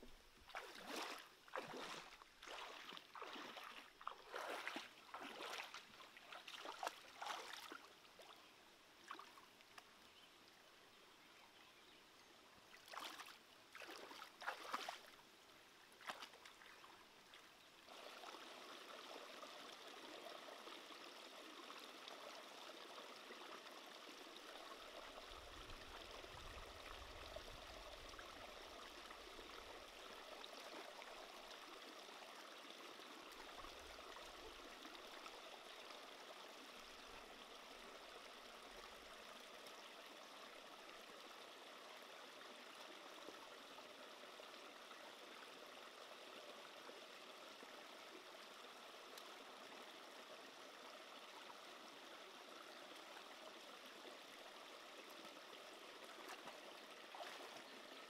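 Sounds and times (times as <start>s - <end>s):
stream trickling over stones: 0.0s - 58.0s.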